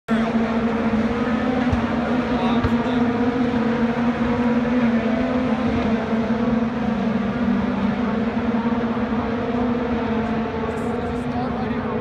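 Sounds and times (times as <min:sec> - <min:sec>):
race car engines droning: 0:00.1 - 0:12.0.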